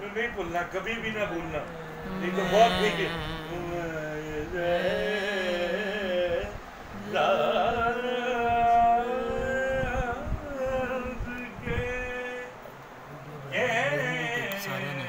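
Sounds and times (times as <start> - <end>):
man singing unaccompanied: 1.1 - 15.0.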